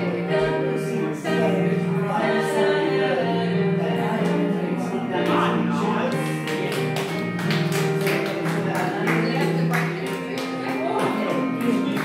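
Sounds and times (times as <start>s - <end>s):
recorded song on a tv: 0.0s - 12.0s.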